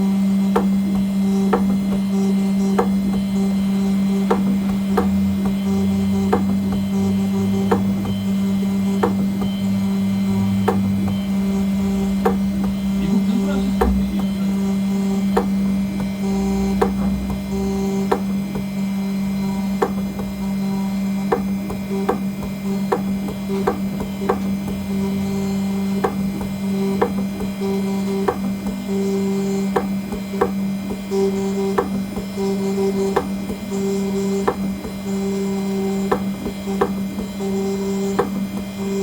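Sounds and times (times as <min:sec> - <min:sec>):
engraving machine humming: 0:00.0 - 0:39.0.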